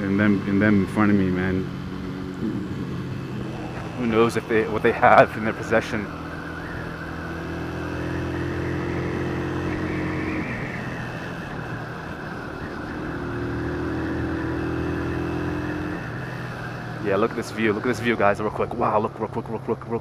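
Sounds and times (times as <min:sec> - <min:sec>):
motorcycle engine running: 0:00.0 - 0:17.4
wind and road noise: 0:00.0 - 0:20.0.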